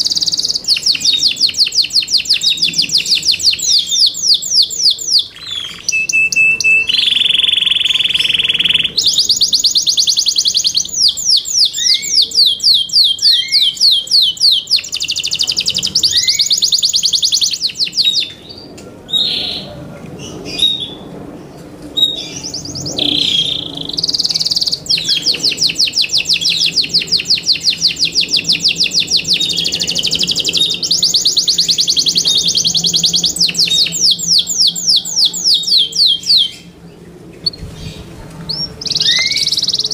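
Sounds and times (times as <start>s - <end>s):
canary singing trills: 0.0s - 21.1s, 22.0s - 39.9s.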